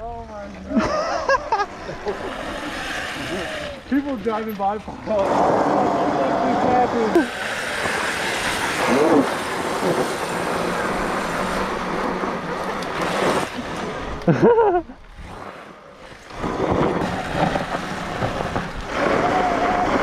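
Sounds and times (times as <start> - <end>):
tyres on sandy dirt: 0.0 - 20.0.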